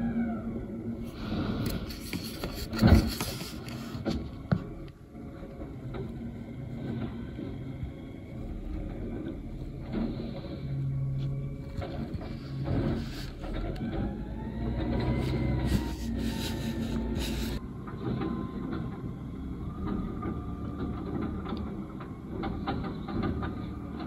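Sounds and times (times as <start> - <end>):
garbage truck running: 0.0 - 24.0
hydraulic arm lifting bin: 2.8 - 24.0.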